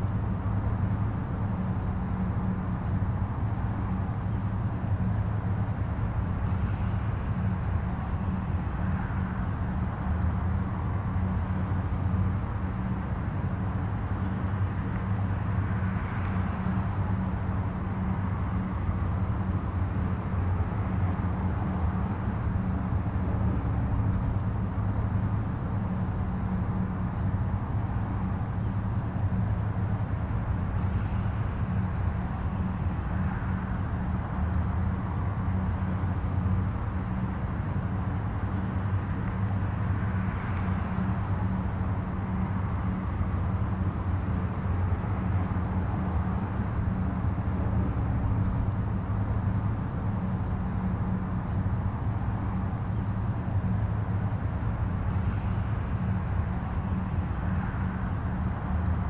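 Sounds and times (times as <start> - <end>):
distant highway traffic: 0.0 - 59.0.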